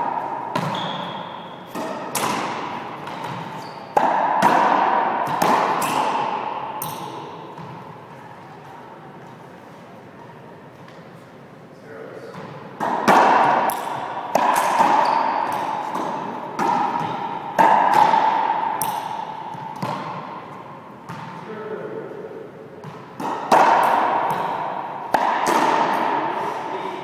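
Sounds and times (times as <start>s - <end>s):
racquetball hits echoing: 0.0s - 9.4s, 12.3s - 21.8s, 22.6s - 27.0s.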